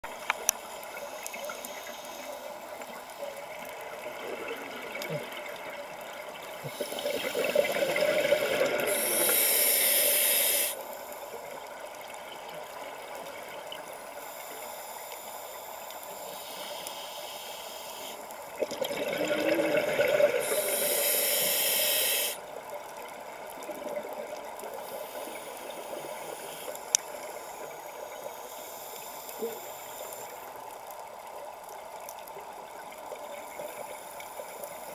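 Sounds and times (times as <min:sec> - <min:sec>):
underwater hiss: 0:00.1 - 0:12.1, 0:12.8 - 0:22.6, 0:24.4 - 0:31.0, 0:33.0 - 0:34.9.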